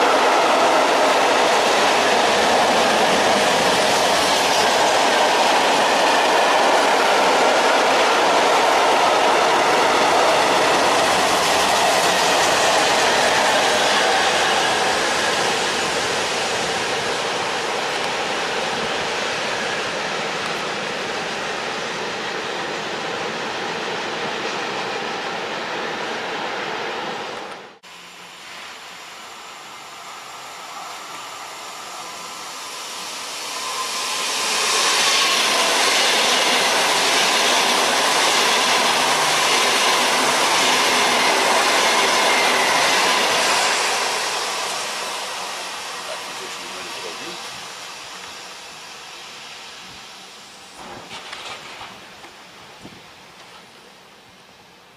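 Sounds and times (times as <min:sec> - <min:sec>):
freight train wheels rumbling: 0:00.0 - 0:54.9
high-speed train passing: 0:00.0 - 0:54.9.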